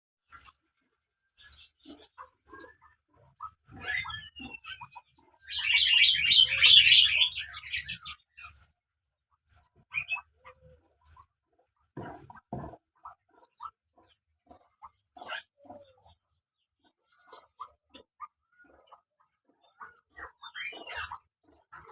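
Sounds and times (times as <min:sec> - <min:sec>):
bird chirping and chattering: 0:00.2 - 0:21.9.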